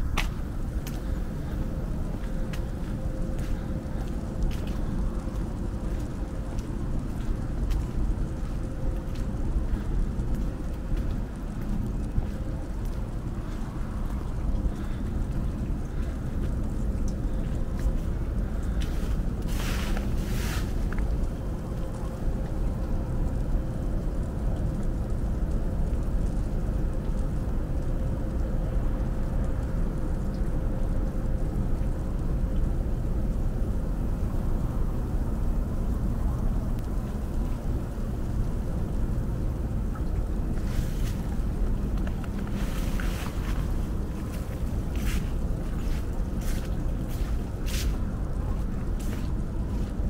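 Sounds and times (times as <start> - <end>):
faint hum: 0.0 - 50.0.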